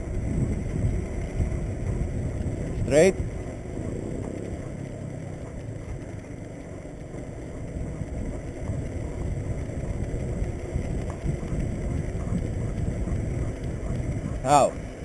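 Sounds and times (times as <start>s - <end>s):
bicycle tyres rolling on pavement: 0.0s - 15.0s
wind buffeting microphone: 0.0s - 15.0s.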